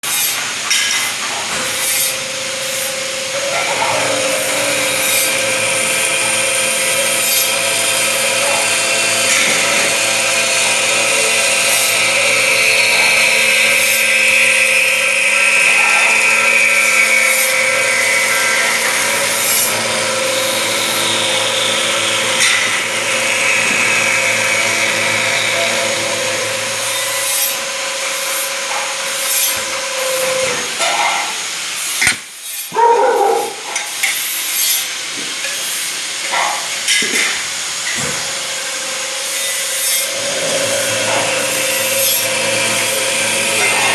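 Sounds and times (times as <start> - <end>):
metal cutting saw humming: 0.0 - 43.9
blade grinding through metal: 1.6 - 30.5, 37.1 - 43.9.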